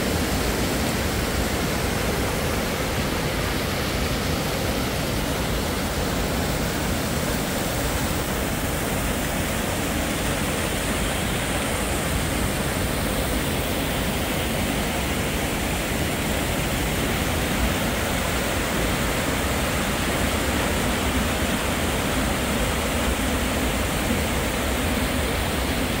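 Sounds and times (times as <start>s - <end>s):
stream rushing over waterfall: 0.0s - 26.0s.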